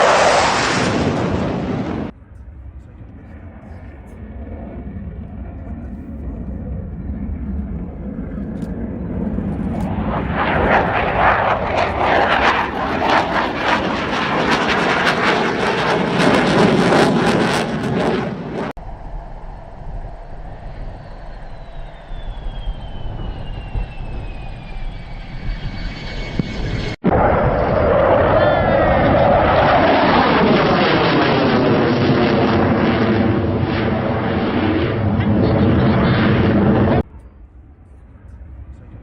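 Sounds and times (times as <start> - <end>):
crackling jet roar: 0.0 - 39.0
jet rumble with falling whine: 0.0 - 39.0.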